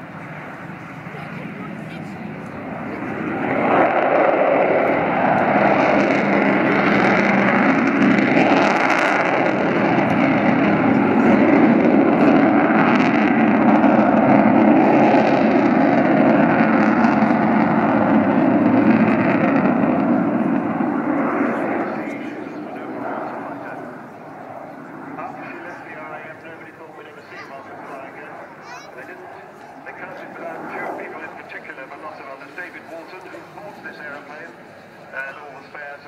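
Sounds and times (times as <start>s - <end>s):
jet plane passing overhead: 0.0s - 36.0s.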